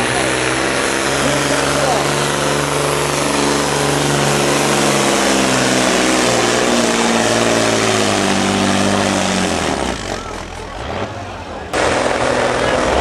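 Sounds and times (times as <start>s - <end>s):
diesel truck engine under full load: 0.0s - 13.0s.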